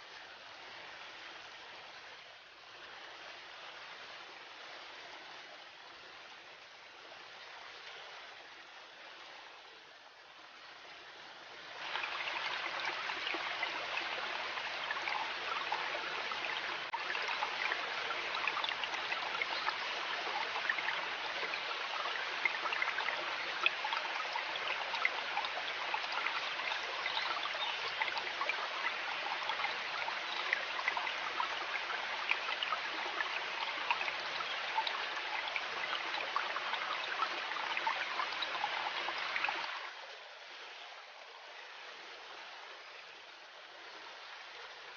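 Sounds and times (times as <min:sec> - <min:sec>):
river babbling over stones: 0:00.0 - 0:44.9.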